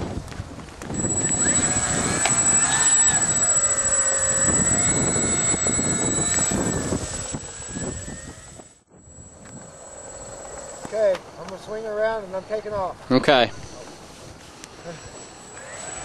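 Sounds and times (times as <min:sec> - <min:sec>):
electric motors whining: 0:00.9 - 0:12.7, 0:14.6 - 0:16.0.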